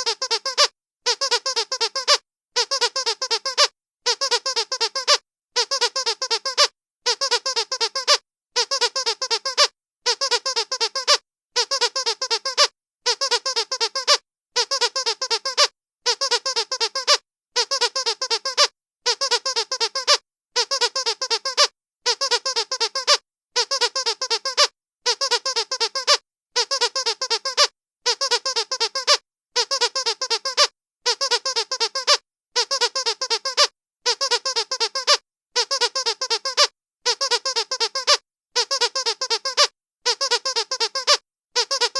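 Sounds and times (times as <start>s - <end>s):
dog squeaky toy squeaking: 0.0s - 41.9s.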